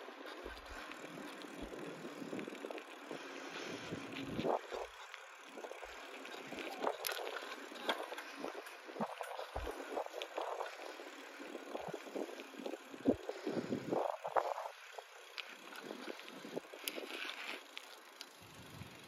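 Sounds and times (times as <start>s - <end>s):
bicycle tyres on pavement: 0.0s - 19.0s
small clicks and rattles: 0.2s - 19.0s.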